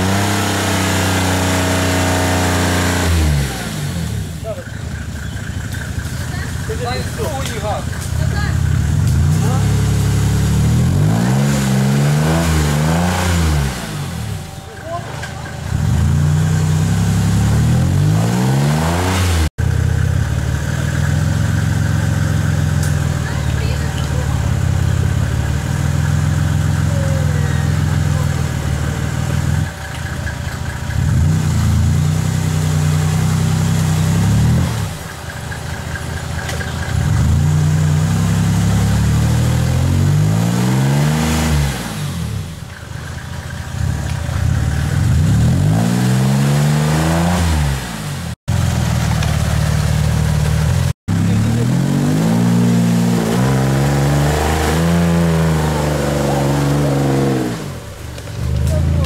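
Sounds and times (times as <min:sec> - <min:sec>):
buggy engine revving: 0:00.0 - 0:59.0.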